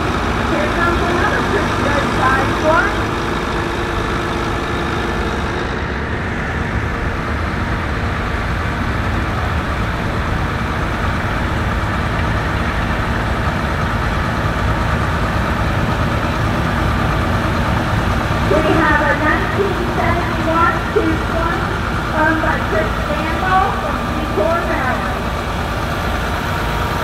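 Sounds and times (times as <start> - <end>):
tractor engines running slowly: 0.0 - 27.0.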